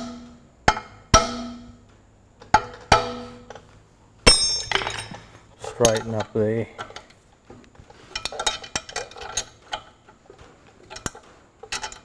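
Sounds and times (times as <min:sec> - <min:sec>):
metallic clatter: 0:00.0 - 0:07.2, 0:07.8 - 0:12.0.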